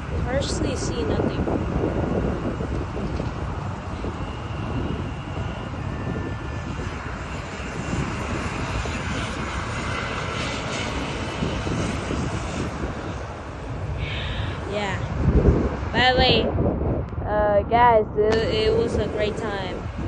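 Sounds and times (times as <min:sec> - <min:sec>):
jet airliner engines running: 0:00.0 - 0:20.0.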